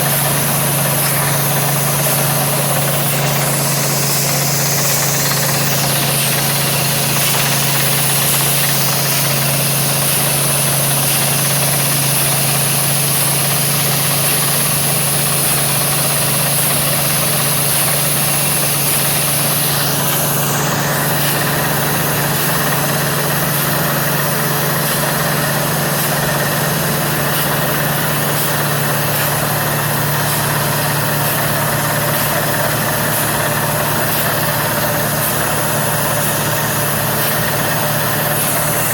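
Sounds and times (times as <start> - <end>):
drilling rig engine drone: 0.0 - 38.9.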